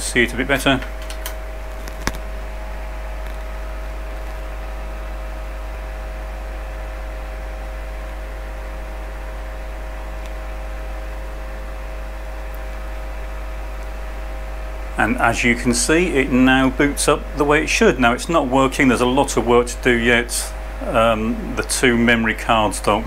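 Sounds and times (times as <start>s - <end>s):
electrical hum: 0.0s - 23.0s
fan noise: 0.0s - 23.0s.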